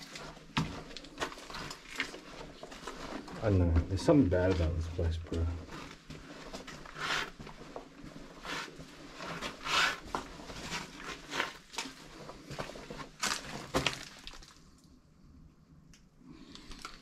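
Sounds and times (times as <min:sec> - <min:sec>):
footsteps crunching over rubble: 0:00.0 - 0:14.8.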